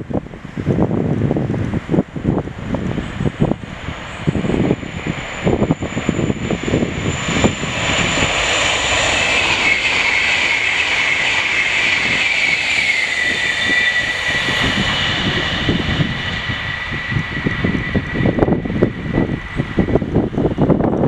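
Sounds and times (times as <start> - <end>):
high-speed train passing: 0.0 - 21.0
wind buffeting microphone: 0.0 - 21.0.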